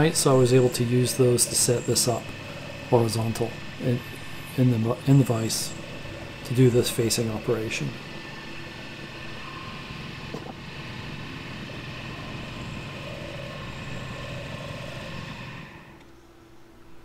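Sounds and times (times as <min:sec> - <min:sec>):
milling machine whirring: 0:00.0 - 0:16.2.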